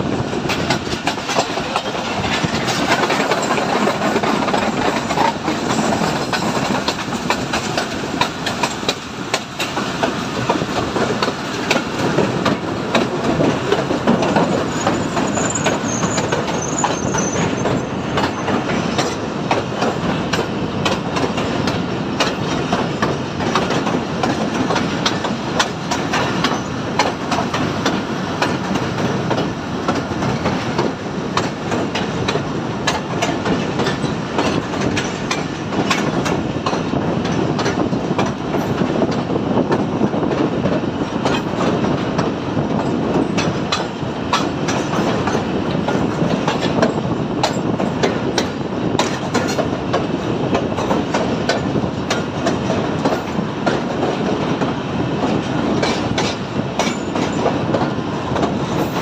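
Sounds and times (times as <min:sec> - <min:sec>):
train rumbling along track: 0:00.0 - 0:59.0
wheels clicking on rails: 0:00.1 - 0:59.0.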